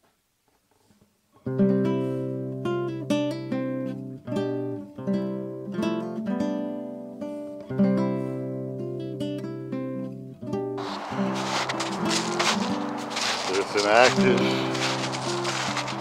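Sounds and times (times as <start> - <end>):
acoustic guitar strumming chords: 1.4 - 16.0.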